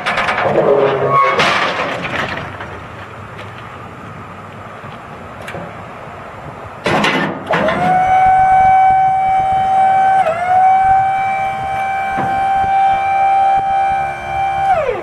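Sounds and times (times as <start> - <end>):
diesel truck engine cranking: 0.0 - 15.0
steady high engine whine: 0.0 - 15.0.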